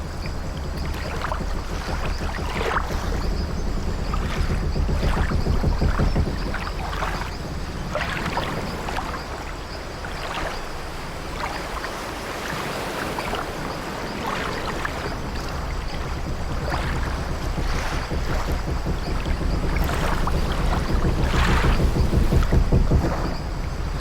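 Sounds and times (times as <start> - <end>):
steady low rumble: 0.0 - 11.7, 13.7 - 24.0
sea waves washing: 0.0 - 24.0
wooden ship creaking: 0.0 - 24.0.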